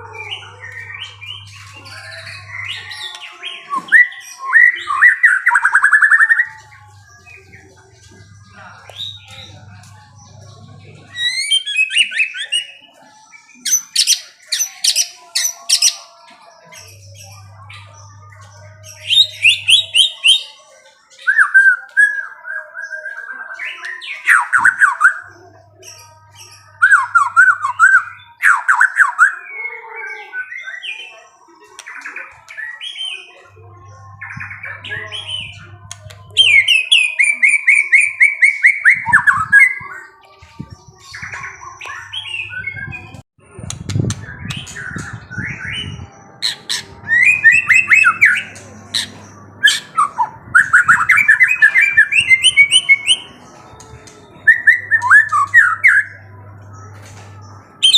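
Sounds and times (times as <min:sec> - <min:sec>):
songbird chirping and trilling: 0:00.0 - 0:57.9.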